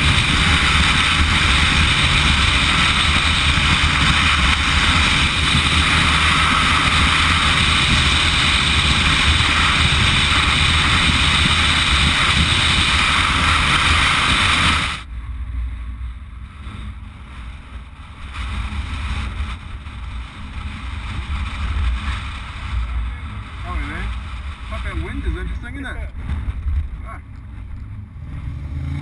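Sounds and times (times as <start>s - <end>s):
wind rush on microphone: 0.0s - 28.9s
gusty low wind rumble: 0.0s - 29.0s
motorcycle running: 0.0s - 29.0s.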